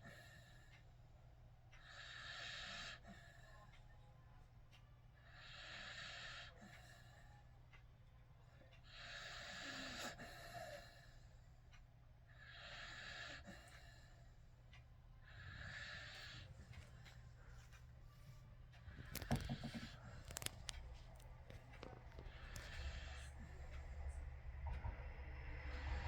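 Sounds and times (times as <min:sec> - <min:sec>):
faint airy snoring: 0:01.7 - 0:03.9, 0:05.2 - 0:07.6, 0:08.6 - 0:26.0.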